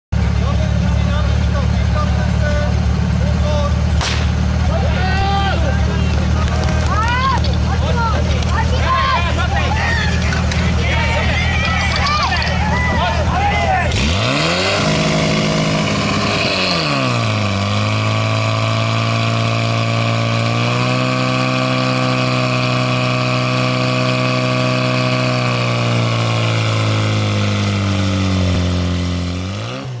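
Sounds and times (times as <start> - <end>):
fire pump engine running hard: 0.1 - 30.0.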